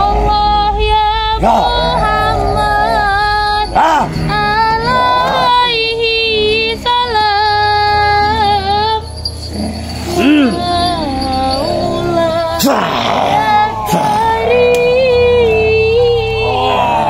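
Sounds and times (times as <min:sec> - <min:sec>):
high voice singing held notes: 0:00.0 - 0:17.0
low steady drone: 0:00.0 - 0:17.0.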